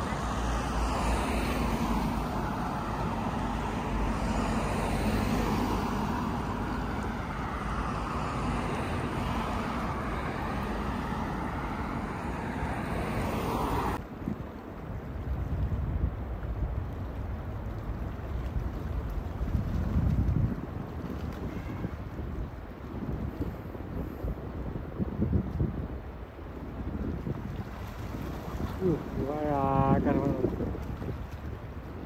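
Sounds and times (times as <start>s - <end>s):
road traffic: 0.0s - 25.1s, 25.8s - 32.0s
wind buffeting microphone: 0.0s - 32.0s.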